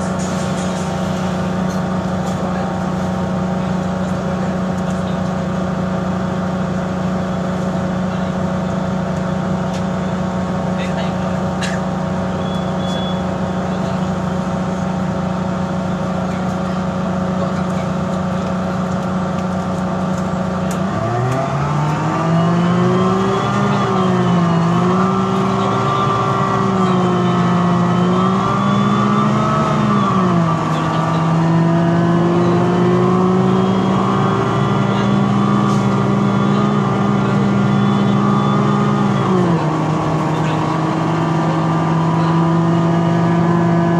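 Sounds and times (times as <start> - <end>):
bus diesel engine revving: 0.0 - 43.9.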